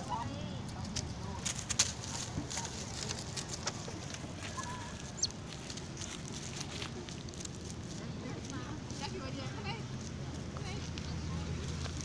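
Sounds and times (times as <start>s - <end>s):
dry leaves rustling underfoot: 0.0s - 12.0s.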